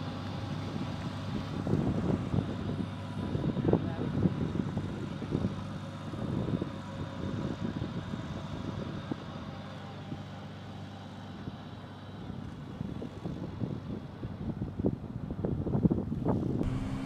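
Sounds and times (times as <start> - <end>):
car engine running low speed: 0.0 - 17.0.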